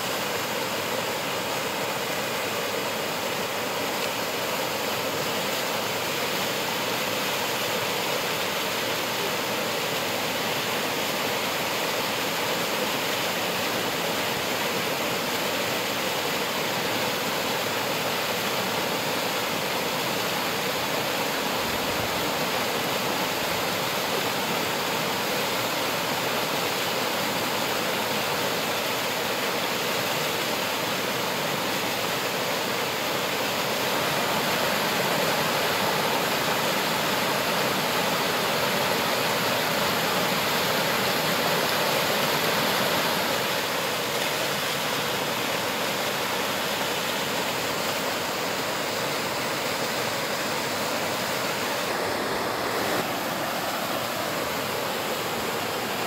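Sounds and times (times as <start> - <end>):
waterfall rushing roar: 0.0 - 56.0.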